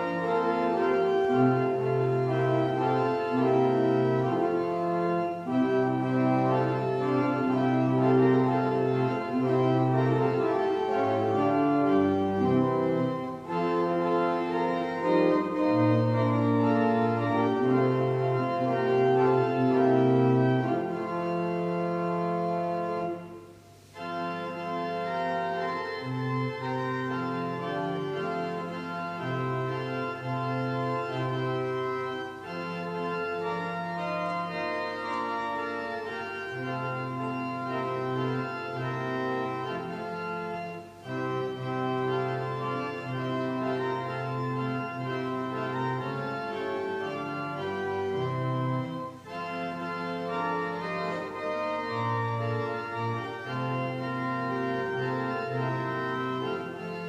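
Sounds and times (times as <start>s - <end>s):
organ playing hymn chords: 0.0s - 57.0s.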